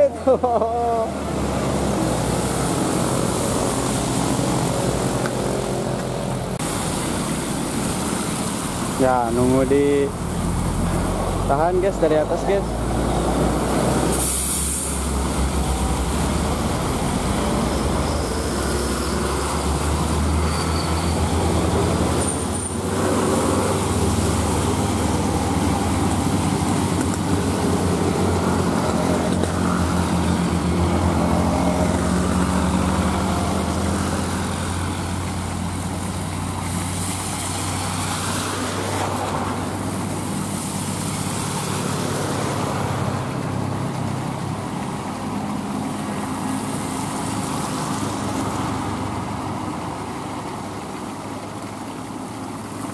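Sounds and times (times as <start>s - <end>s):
truck diesel engine labouring: 0.0s - 52.9s
wet road traffic hiss: 0.0s - 52.9s.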